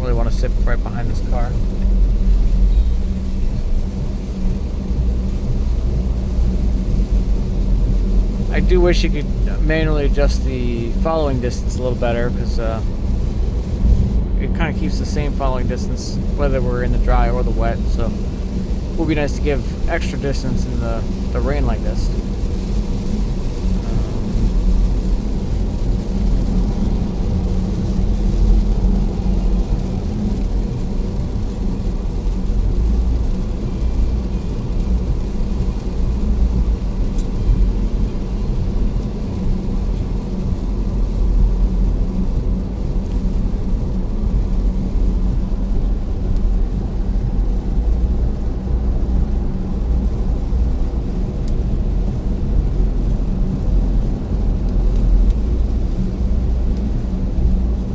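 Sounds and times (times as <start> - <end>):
road and tyre rumble in car cabin: 0.0 - 57.9.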